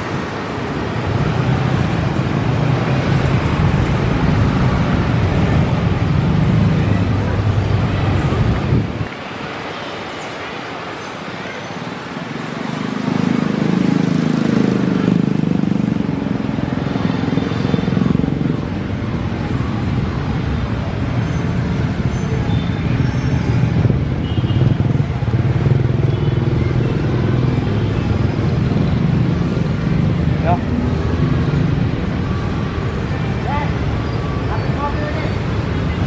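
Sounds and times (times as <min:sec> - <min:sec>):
vehicles passing with low rumble: 0:00.0 - 0:36.0.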